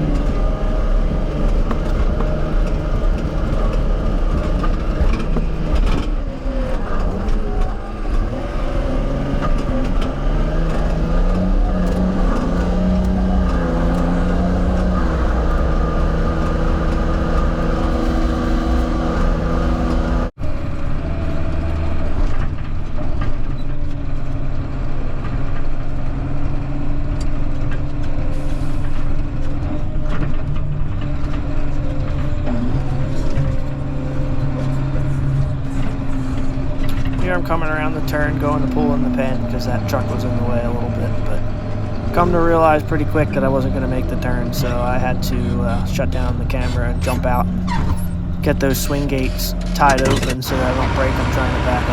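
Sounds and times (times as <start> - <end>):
farm vehicle engine running: 0.0 - 20.3, 28.5 - 51.9.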